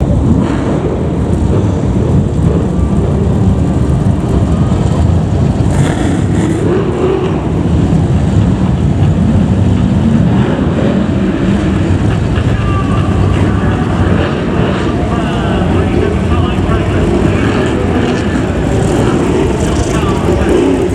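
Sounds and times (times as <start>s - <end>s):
stock car engines rumbling: 0.0s - 20.9s.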